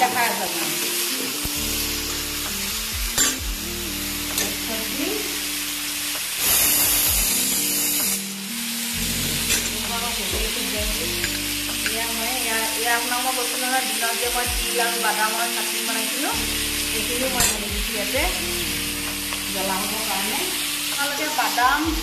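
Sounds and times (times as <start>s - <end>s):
vegetables sizzling in pan: 0.0s - 22.0s.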